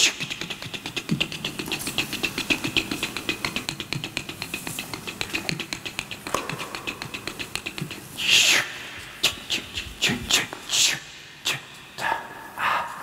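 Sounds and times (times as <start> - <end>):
fast even clicking: 0.0 - 10.6.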